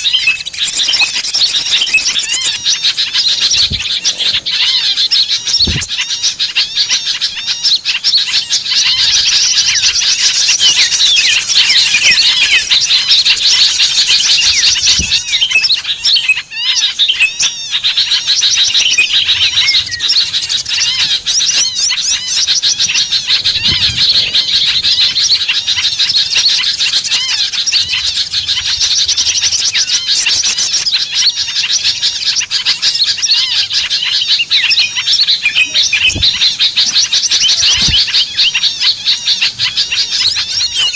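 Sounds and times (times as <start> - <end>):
many small birds chirping: 0.0 - 40.9.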